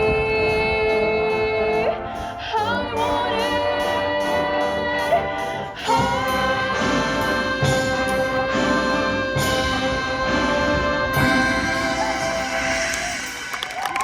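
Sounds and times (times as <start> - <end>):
brass sustained chords: 0.9 - 13.6.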